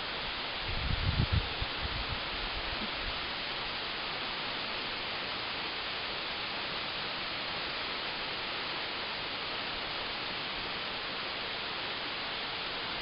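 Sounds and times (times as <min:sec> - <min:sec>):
waterfall hissing: 0:00.0 - 0:13.0.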